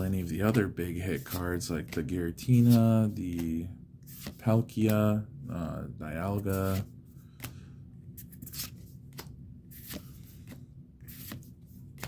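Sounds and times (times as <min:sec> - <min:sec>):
trading cards swishing: 0:00.0 - 0:05.0, 0:06.4 - 0:12.0.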